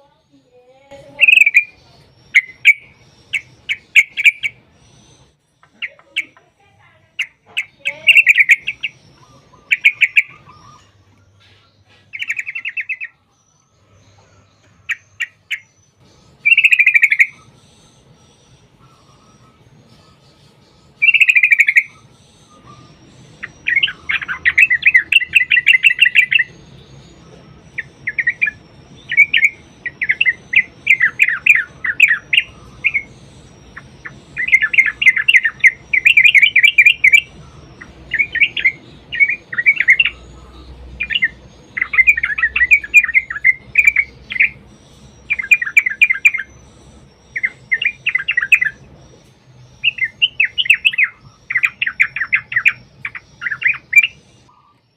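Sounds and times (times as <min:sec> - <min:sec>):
bulbul singing chattering notes: 0:00.8 - 0:54.9.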